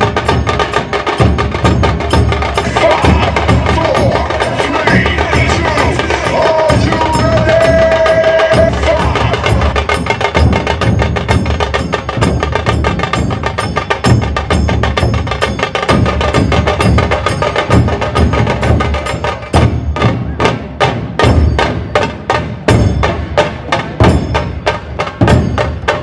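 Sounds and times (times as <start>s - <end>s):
deep drum beats: 0.0s - 26.0s.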